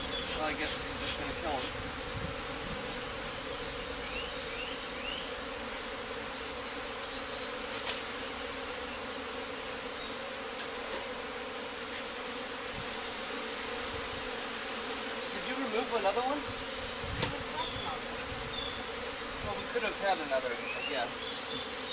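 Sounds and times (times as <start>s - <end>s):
honeybees buzzing: 0.0s - 21.9s.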